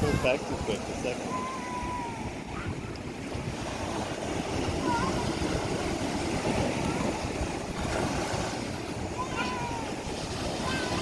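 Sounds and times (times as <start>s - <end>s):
surf breaking on beach: 0.0s - 11.0s
wind on microphone: 0.0s - 11.0s.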